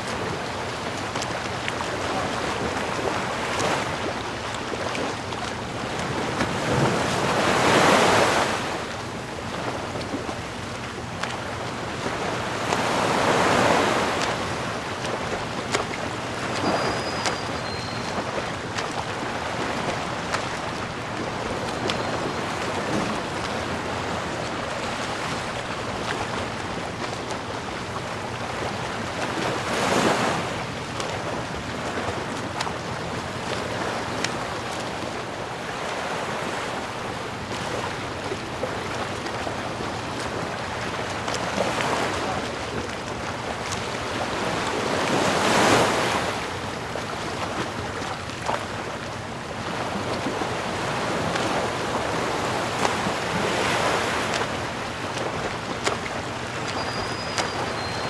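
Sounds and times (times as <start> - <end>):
ocean waves on shore: 0.0 - 58.0
wind: 0.0 - 58.0.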